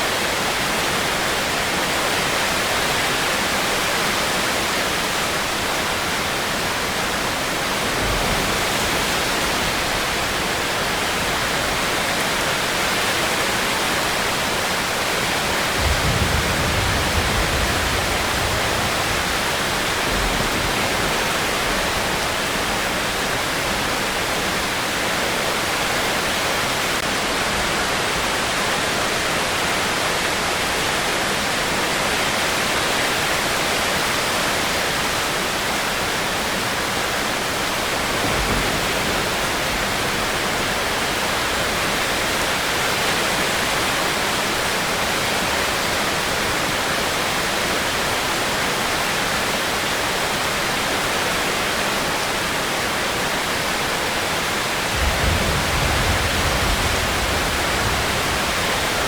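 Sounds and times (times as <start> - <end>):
heavy rain hissing: 0.0 - 29.7, 31.0 - 59.0.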